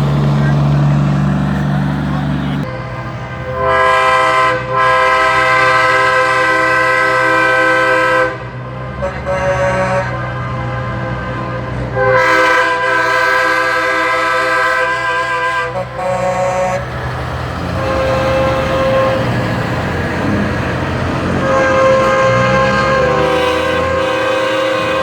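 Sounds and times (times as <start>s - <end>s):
truck air horns blowing: 1.4s - 25.0s.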